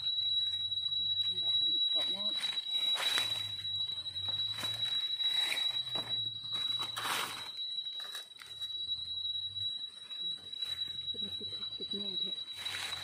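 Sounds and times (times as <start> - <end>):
high-pitched whine: 0.0 - 13.0.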